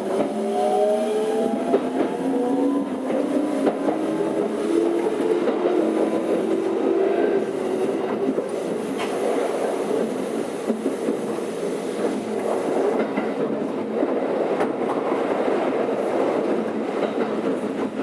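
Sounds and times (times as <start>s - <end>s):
electric train running noise: 0.0s - 15.1s.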